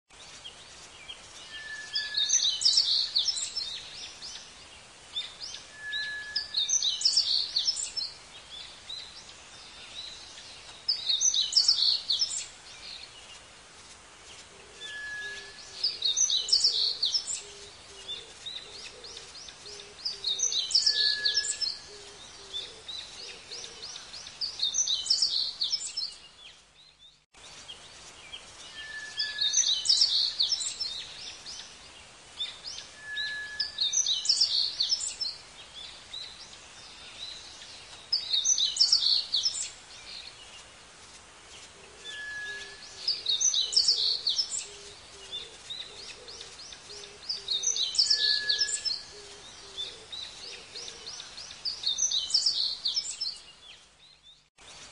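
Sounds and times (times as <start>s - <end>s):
outdoor background noise: 0.1s - 54.9s
songbird singing: 0.1s - 54.9s.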